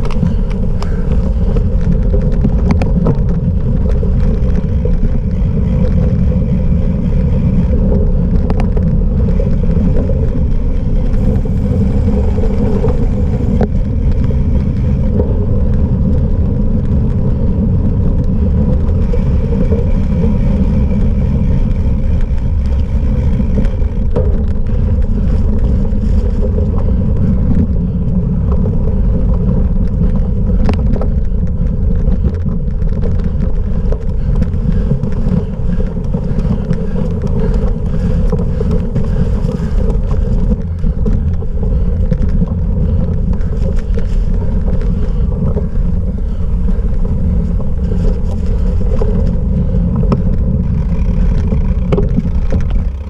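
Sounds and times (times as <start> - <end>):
bike rumbling over rough ground: 0.0 - 53.0
wind buffeting microphone: 0.0 - 53.0.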